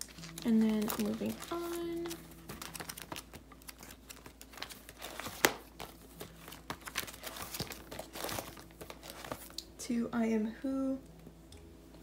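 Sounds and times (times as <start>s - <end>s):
plastic pages crinkling: 0.0s - 9.7s.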